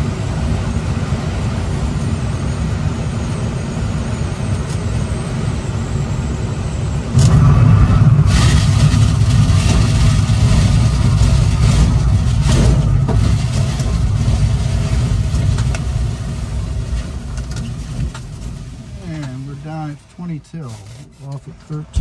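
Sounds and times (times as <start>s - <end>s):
glider airframe rumbling and rattling: 0.0s - 22.0s.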